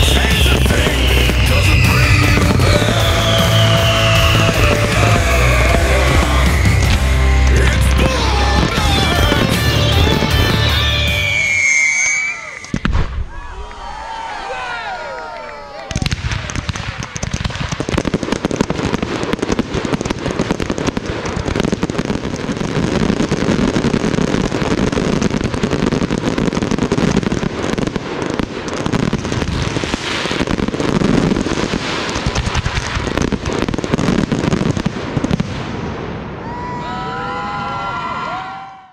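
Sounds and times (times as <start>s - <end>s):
fireworks bangs and crackle: 0.0s - 13.5s, 15.1s - 38.9s.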